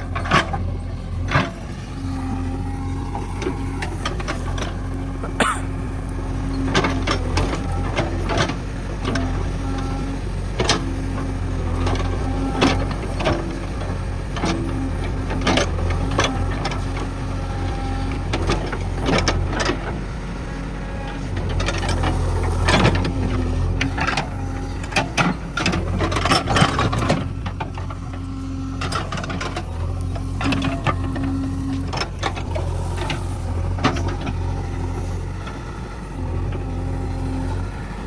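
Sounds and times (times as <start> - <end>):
diesel engine running under load: 0.0 - 38.0.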